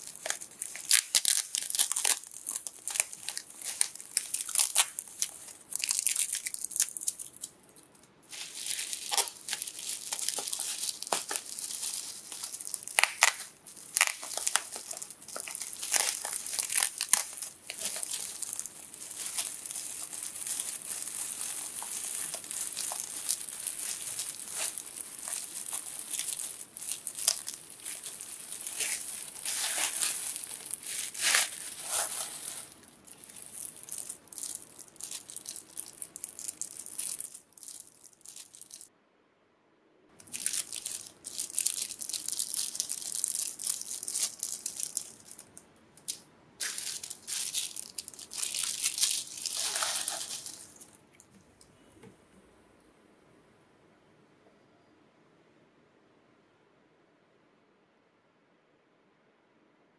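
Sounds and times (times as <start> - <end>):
bubble wrap crinkling and crackling: 0.0 - 38.9, 40.2 - 51.3.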